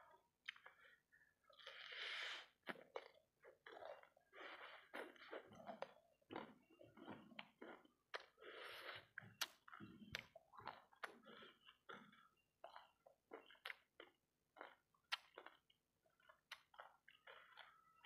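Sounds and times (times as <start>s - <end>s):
close chewing mouth sounds: 0.1s - 18.0s.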